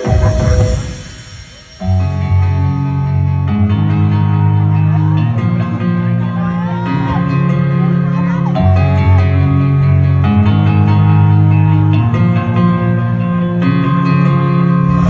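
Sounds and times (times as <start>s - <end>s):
heavy bass music: 0.0s - 15.0s.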